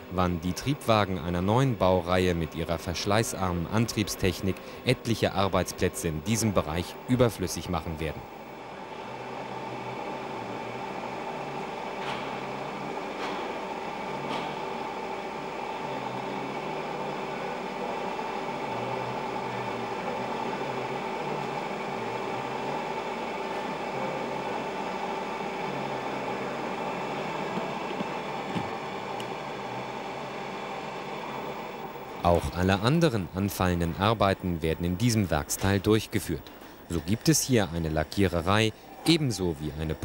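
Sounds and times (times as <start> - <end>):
workshop machinery hum: 0.0 - 40.0.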